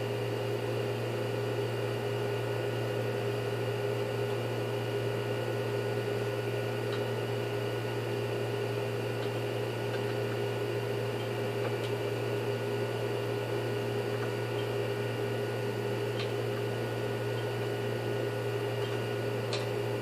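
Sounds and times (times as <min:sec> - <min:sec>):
electric motor humming: 0:01.4 - 0:20.0.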